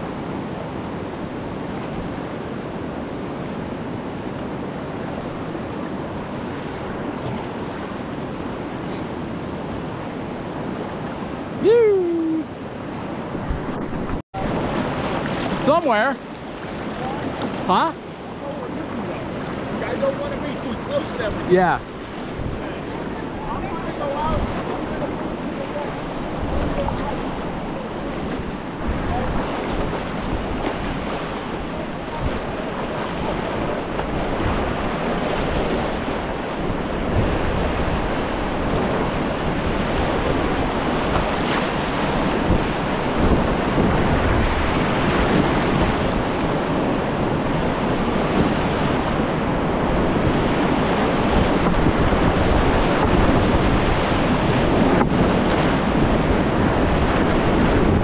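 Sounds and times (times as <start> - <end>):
river rapid rushing: 0.0 - 58.0
wind buffeting microphone: 0.0 - 58.0.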